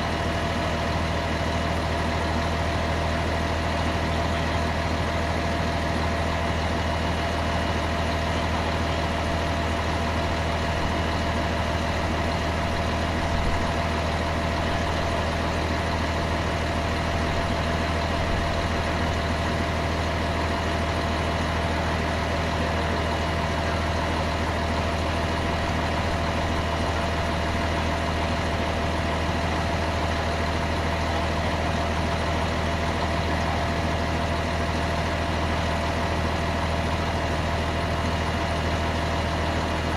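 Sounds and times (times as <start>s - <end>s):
heavy engine idling: 0.0s - 39.9s.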